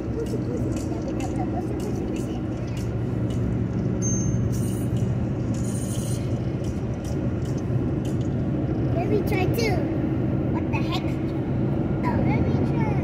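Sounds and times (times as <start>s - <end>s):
car driving on highway: 0.0s - 13.0s.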